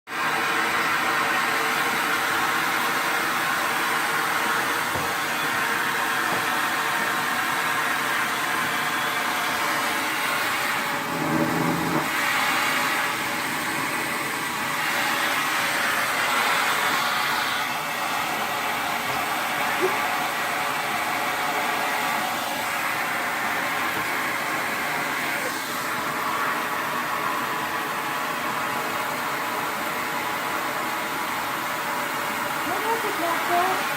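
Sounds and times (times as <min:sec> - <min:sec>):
vacuum cleaner running: 0:00.1 - 0:33.9.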